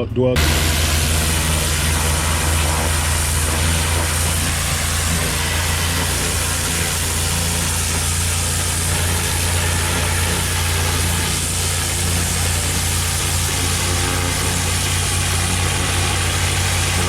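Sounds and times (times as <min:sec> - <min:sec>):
dense hiss: 0:00.4 - 0:17.0
pressure washer engine running: 0:00.4 - 0:17.0.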